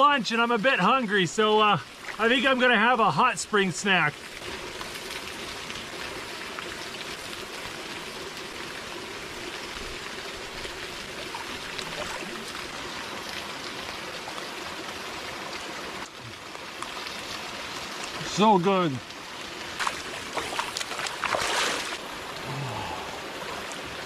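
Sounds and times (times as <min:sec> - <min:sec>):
waterfall pouring into pool: 0:00.0 - 0:24.0.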